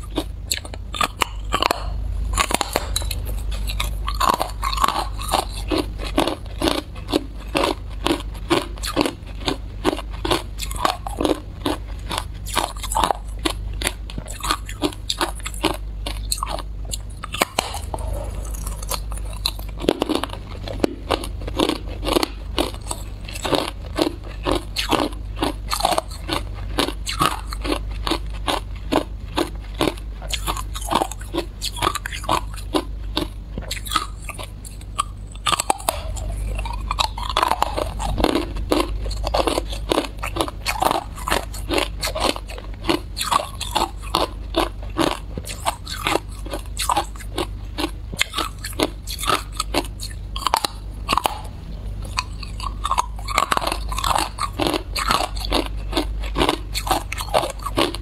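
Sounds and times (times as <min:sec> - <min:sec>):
ice being crunched by chewing: 0:00.0 - 0:51.4, 0:52.1 - 0:58.0.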